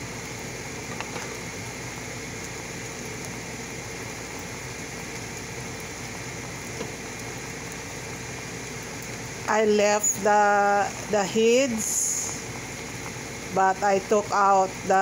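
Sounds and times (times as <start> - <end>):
ceiling fan: 0.0 - 15.0
shrimp simmering in pan: 0.0 - 15.0.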